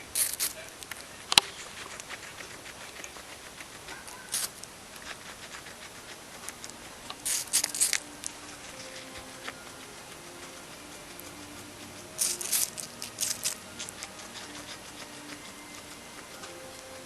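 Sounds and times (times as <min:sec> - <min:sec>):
guinea pig chewing apple: 0:00.0 - 0:17.0.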